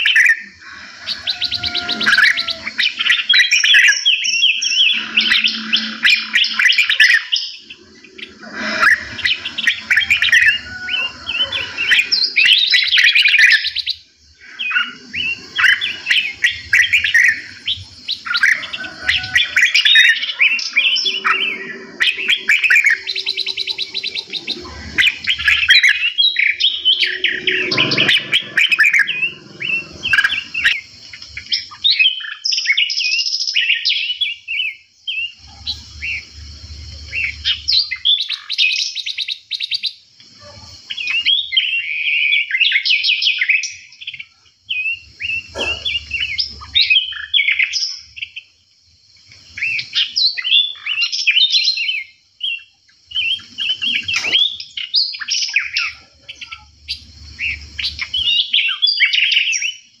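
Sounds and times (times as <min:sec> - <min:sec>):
songbirds chirping and singing: 0:00.0 - 1:00.0.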